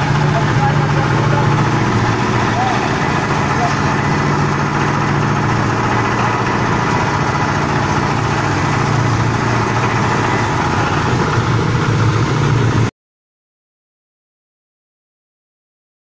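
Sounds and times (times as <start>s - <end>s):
granulator low drone: 0.0s - 12.9s.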